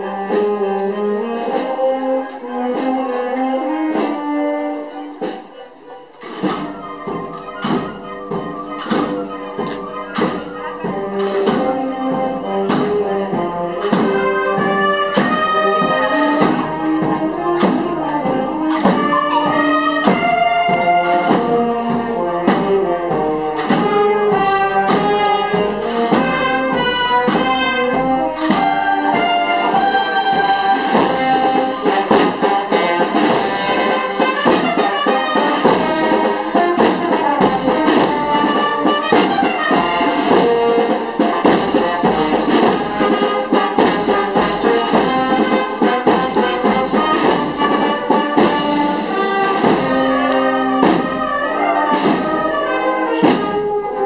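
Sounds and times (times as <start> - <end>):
brass band playing a march: 0.0 - 54.0.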